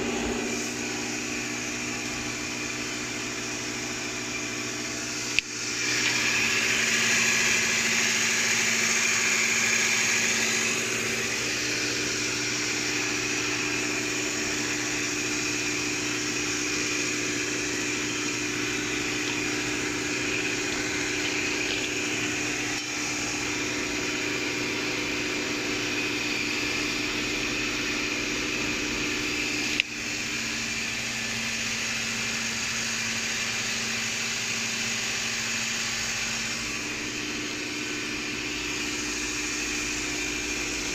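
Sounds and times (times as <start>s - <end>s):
machine drone: 0.0s - 40.9s
whining tones: 0.0s - 40.9s.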